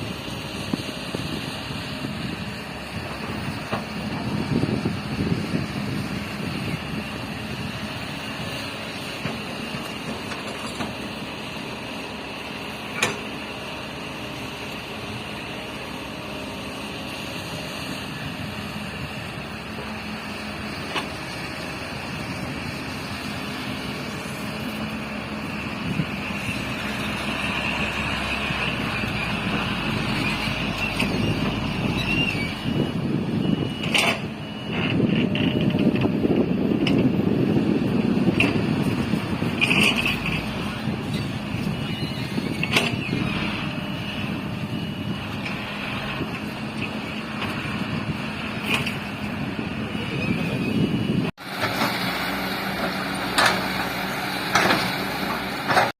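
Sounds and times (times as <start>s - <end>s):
diesel machinery engine running: 0.0s - 55.9s.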